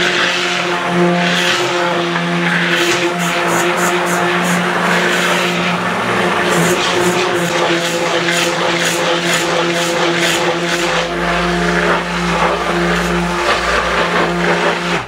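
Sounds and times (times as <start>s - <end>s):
electric mixer whisking batter: 0.0s - 15.0s.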